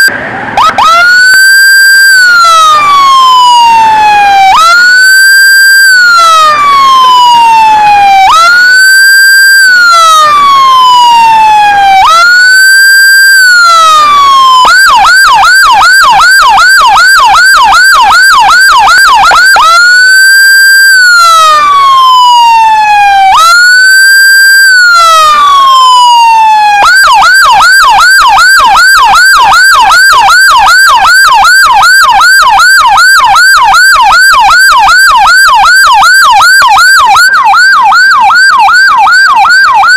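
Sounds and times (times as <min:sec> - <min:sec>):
electronic siren wailing and yelping: 0:00.0 - 0:39.9.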